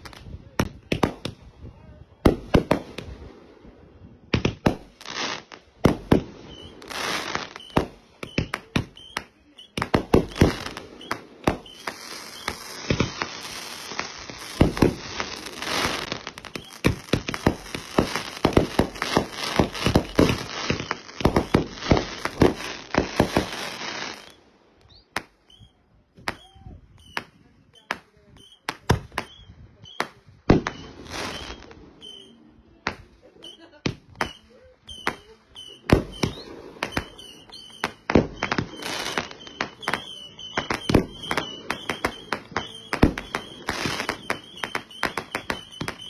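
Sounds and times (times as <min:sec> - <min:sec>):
fireworks bangs and crackle: 0:00.0 - 0:46.0.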